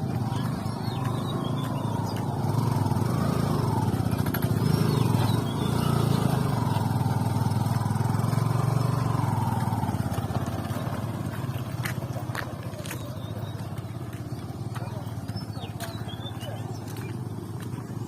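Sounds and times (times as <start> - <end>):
motorcycle engine drone: 0.0 - 18.0.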